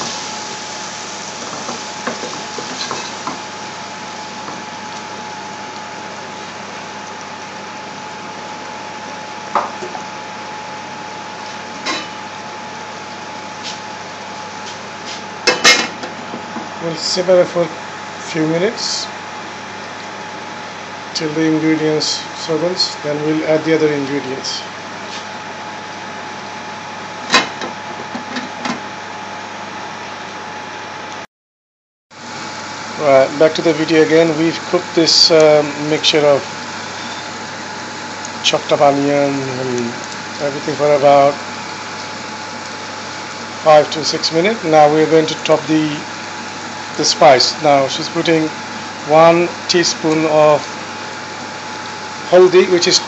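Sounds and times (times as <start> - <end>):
onions sizzling in oil: 0.0 - 23.4, 32.2 - 53.0
pot simmering hiss: 0.0 - 30.4, 32.2 - 53.0.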